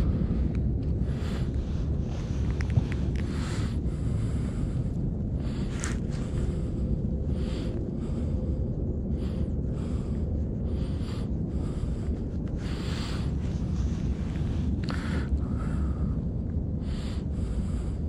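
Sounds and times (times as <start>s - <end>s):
soft hissing puffs: 0.0s - 18.0s
wind buffeting microphone: 0.0s - 18.0s.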